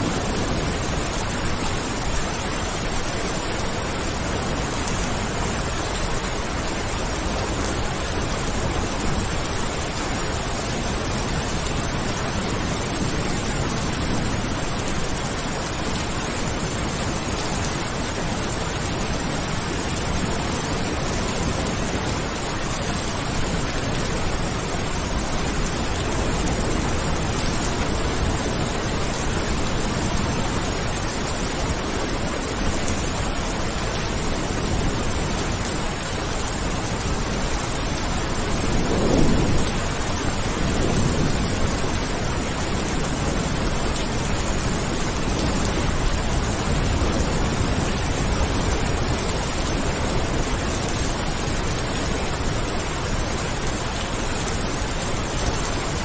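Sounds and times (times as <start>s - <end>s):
thunder rumbling: 0.0s - 3.0s, 3.7s - 54.1s
heavy rain falling: 0.0s - 56.0s.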